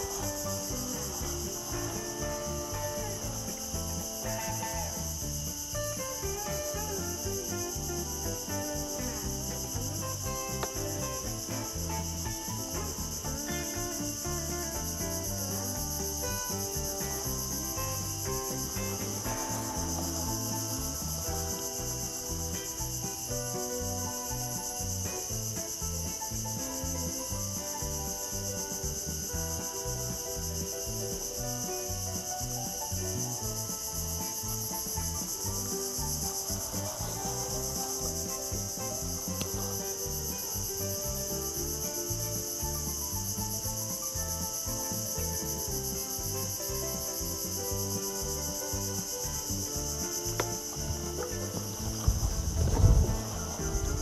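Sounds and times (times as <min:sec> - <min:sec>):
shrill insect chorus: 0:00.0 - 0:54.0.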